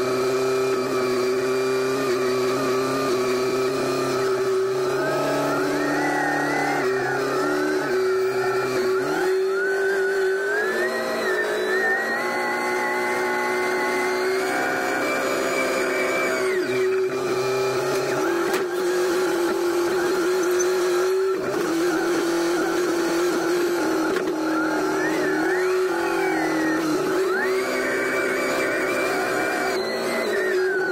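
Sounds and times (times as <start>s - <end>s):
climbing whine: 0.0s - 30.9s
telehandler engine revving: 0.0s - 30.9s.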